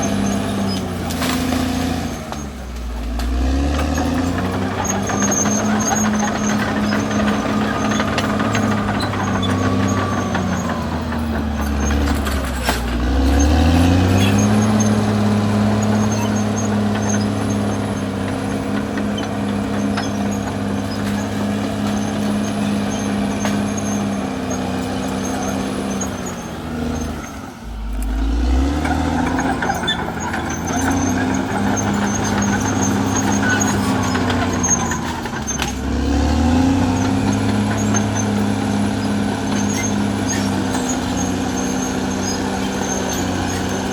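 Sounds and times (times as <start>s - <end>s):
bulldozer diesel engine under load: 0.0s - 43.9s.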